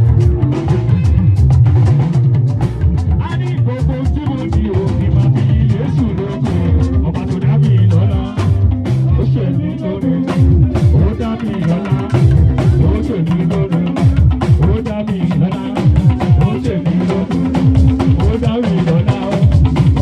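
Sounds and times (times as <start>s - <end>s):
bass guitar: 0.0s - 20.0s
drum kit: 0.0s - 20.0s
guitar: 0.0s - 20.0s.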